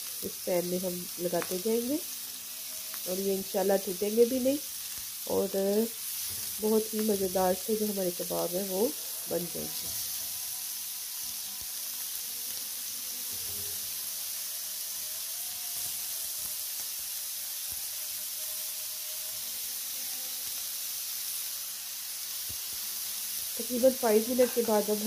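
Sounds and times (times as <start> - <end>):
meat sizzling in grill pan: 0.0 - 25.0.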